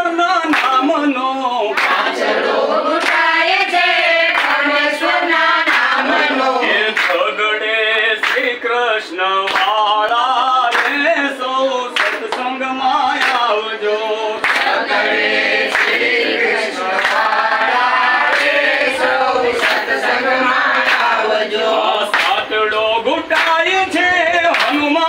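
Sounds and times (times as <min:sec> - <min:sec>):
hand claps: 0:00.4 - 0:01.0, 0:01.7 - 0:02.3, 0:03.0 - 0:25.0
group singing without instruments: 0:00.5 - 0:25.0.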